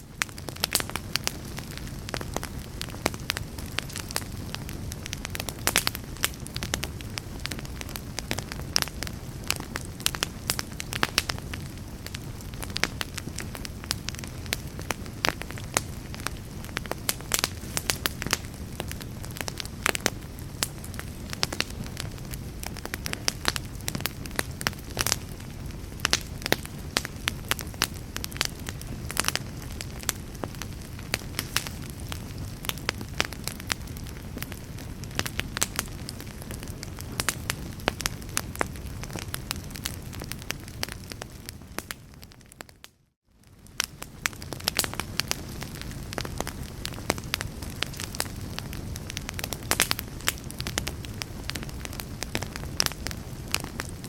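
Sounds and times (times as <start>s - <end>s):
fire crackling and popping: 0.0s - 54.0s
low rush of flame: 0.1s - 42.6s, 43.4s - 54.0s.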